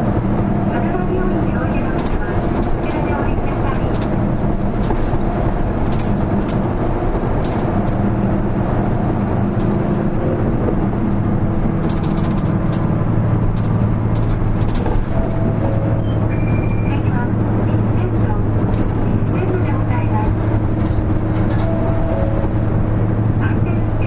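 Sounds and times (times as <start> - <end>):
bus diesel engine: 0.0 - 24.0
interior clicking rattles: 0.2 - 24.0.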